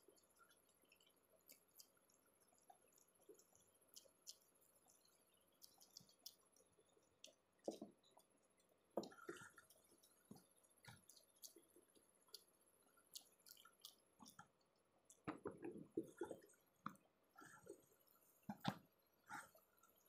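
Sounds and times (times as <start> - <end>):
chewing and mouth smacks: 0.2 - 20.0.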